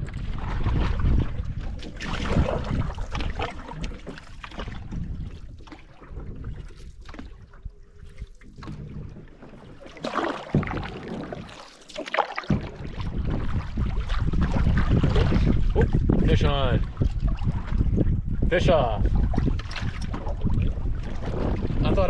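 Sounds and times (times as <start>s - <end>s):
wind rumble on microphone: 0.0s - 9.8s, 12.5s - 22.0s
paddle splashing water: 0.0s - 22.0s
water lapping against hull: 0.0s - 22.0s.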